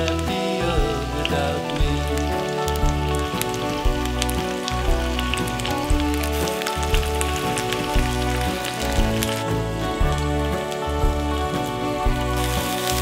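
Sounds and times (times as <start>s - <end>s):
background music with slow pulse: 0.0s - 13.0s
food sizzling on grill pan: 0.2s - 13.0s.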